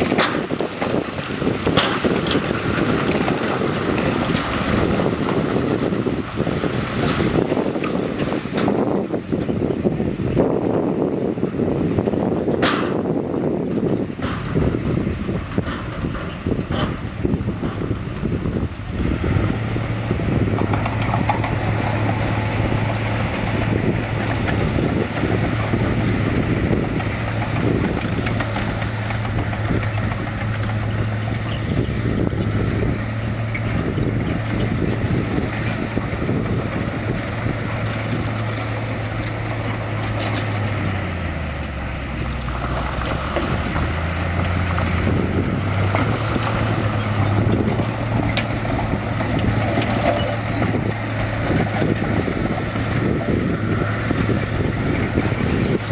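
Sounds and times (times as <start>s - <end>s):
clatter of tracks and rock: 0.0s - 9.8s, 12.0s - 41.2s, 41.8s - 55.9s
bulldozer diesel engine running: 0.0s - 55.9s.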